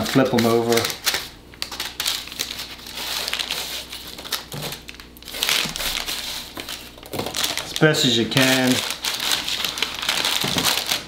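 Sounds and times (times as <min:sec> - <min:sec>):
parchment paper crinkling: 0:00.0 - 0:11.0.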